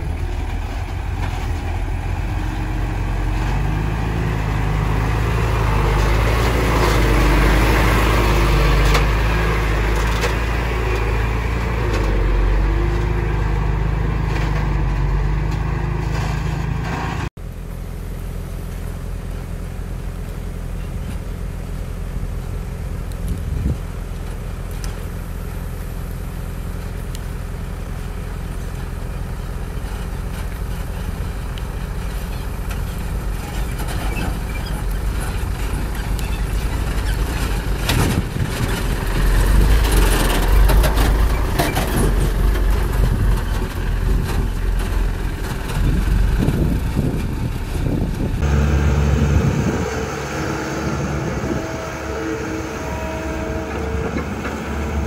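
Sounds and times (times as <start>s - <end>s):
excavator engine and hydraulics: 0.0s - 55.0s
truck diesel engine running: 0.0s - 55.0s.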